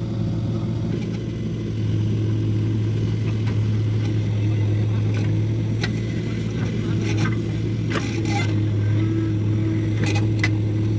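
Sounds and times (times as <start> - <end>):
diesel engines running: 0.0 - 10.9.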